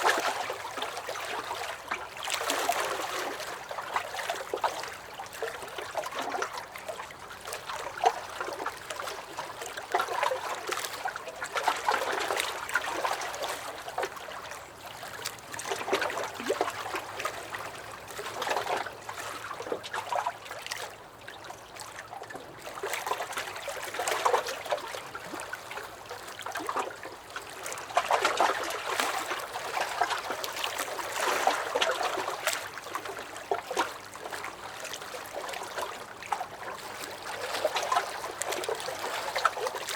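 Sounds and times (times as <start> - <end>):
small splashes and trickles: 0.0 - 39.9
waves lapping against wooden dock: 0.0 - 39.9.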